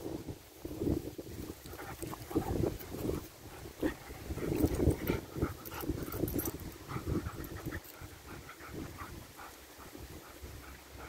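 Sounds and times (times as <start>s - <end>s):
wind rumbling on microphone: 0.0s - 11.0s
dogs growling and panting: 1.4s - 11.0s.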